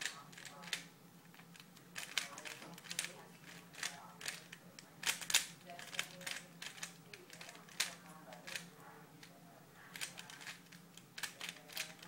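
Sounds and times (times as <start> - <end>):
speed cube clacking clicks: 0.0 - 8.7, 10.0 - 10.6, 11.2 - 12.0.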